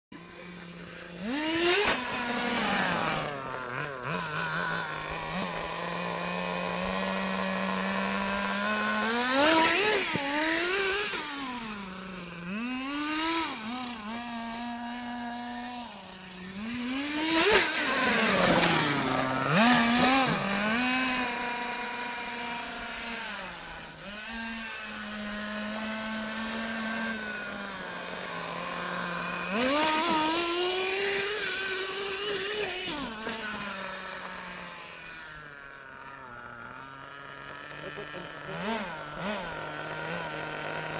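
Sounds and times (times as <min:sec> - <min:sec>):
small nitro engine revving: 0:00.1 - 0:40.9.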